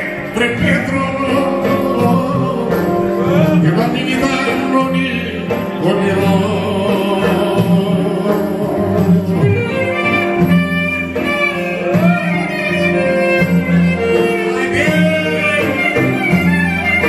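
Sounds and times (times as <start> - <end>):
folk band playing: 0.0 - 17.0.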